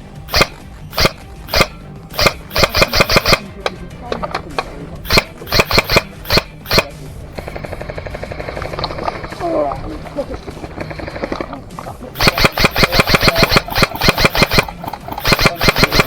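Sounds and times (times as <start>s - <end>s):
airsoft gun shots: 0.0s - 16.0s
fast even pulsing: 0.0s - 16.0s.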